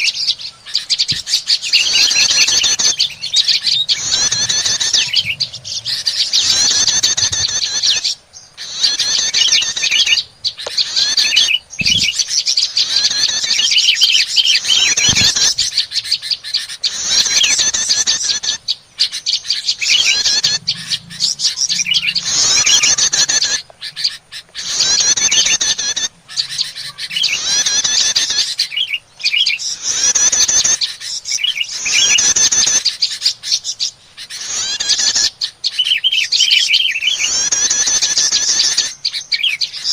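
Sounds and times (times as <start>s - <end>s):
birds chattering high calls: 0.0s - 39.9s.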